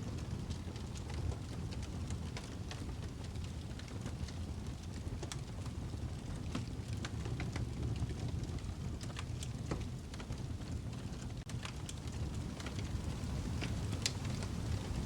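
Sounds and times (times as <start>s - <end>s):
fire crackling and popping: 0.1s - 15.0s.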